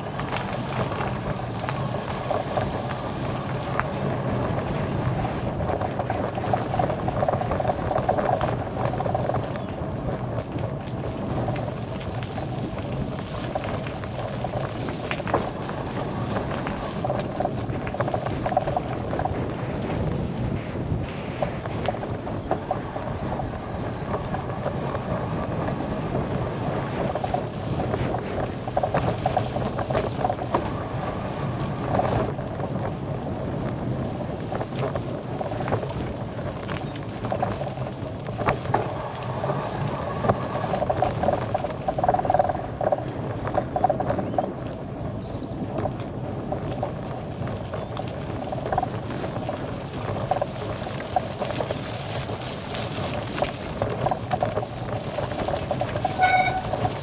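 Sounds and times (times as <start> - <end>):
bicycle clicks and rattles: 0.0 - 57.0
bicycle tyre noise on road: 0.0 - 57.0
wind noise on microphone: 0.0 - 57.0.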